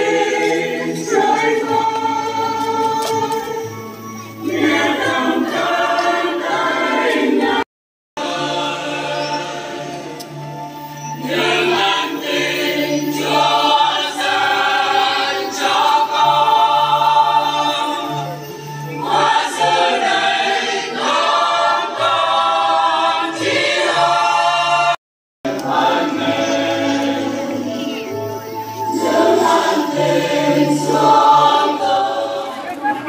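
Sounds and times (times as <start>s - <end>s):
choir singing a hymn: 0.0s - 7.6s, 8.2s - 33.0s.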